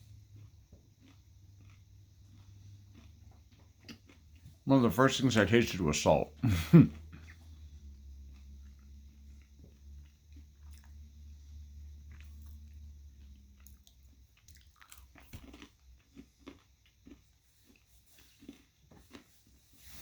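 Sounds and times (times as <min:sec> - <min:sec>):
low steady hum: 0:00.0 - 0:20.0
person chewing and crunching: 0:00.0 - 0:20.0.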